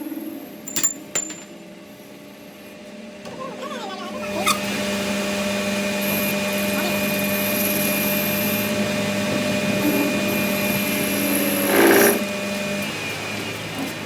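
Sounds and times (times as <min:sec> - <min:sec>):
power tool humming: 0:01.6 - 0:14.0.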